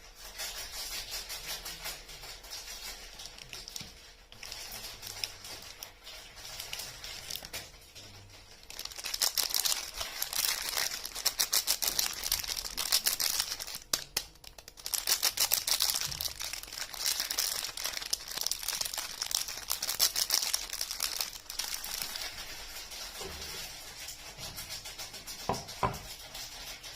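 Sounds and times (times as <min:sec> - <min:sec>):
packaging crinkling and tearing: 0:00.3 - 0:26.9.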